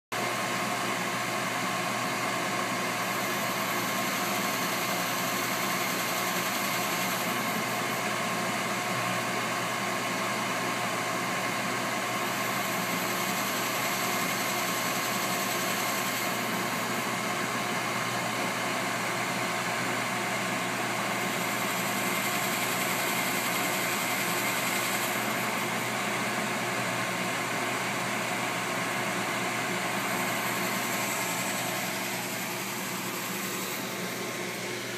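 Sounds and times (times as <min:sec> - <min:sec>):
lathe machine hum: 0:00.2 - 0:34.9.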